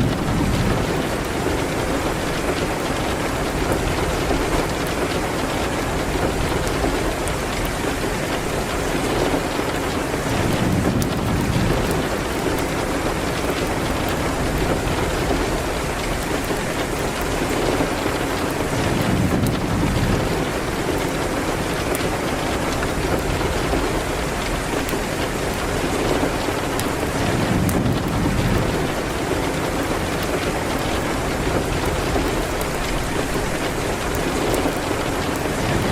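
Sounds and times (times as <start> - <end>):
rain hitting a window: 0.0 - 35.9.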